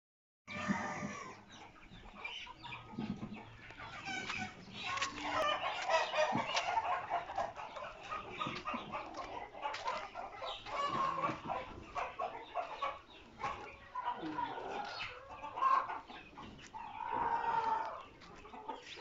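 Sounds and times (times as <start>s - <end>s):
chickens clucking: 0.5s - 19.0s.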